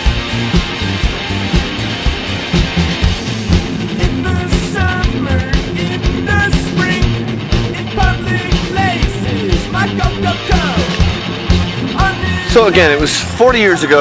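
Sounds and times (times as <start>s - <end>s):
rock music with drums and guitar: 0.0s - 14.0s.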